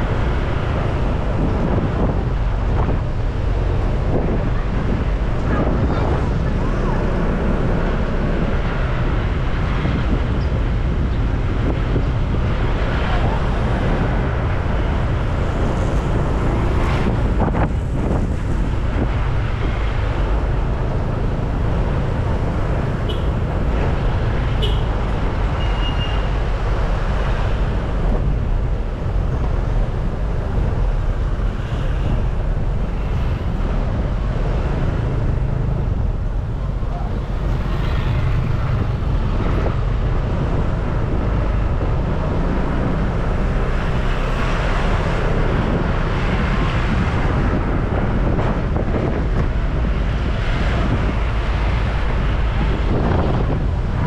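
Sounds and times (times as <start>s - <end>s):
passing road traffic: 0.0s - 54.0s
wind rumble on microphone: 0.0s - 54.0s.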